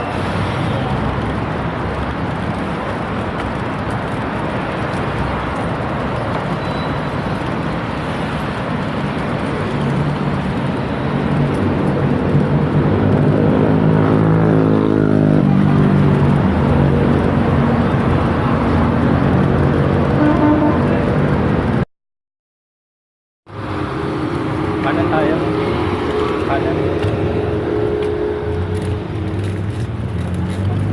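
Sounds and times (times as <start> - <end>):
motor vehicle engine: 0.0 - 21.8, 23.5 - 30.9.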